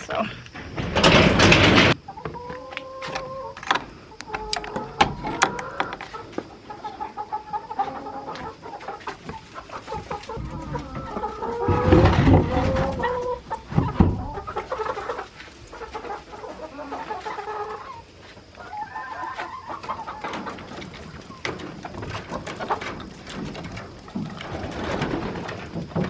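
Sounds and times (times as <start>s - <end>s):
chickens clucking: 0.0s - 26.0s
knocks and scrapes: 0.4s - 7.0s, 7.8s - 16.2s, 19.4s - 26.0s.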